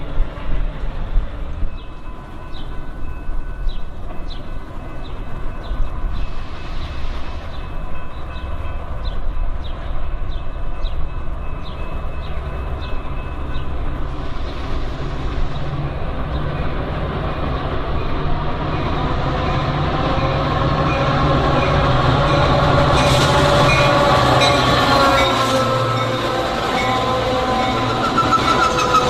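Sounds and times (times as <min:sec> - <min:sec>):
diesel locomotive engine drone: 0:00.0 - 0:29.0
wheel squeal and rail noise: 0:00.0 - 0:29.0.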